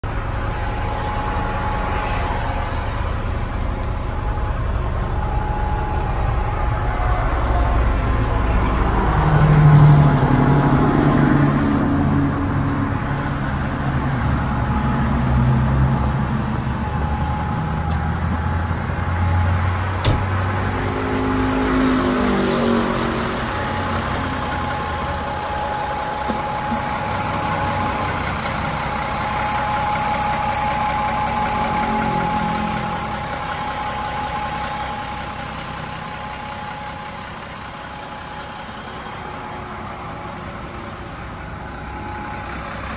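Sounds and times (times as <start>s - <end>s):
steady high whine: 0.0s - 9.5s, 10.1s - 42.9s
diesel engine revving: 0.0s - 42.9s.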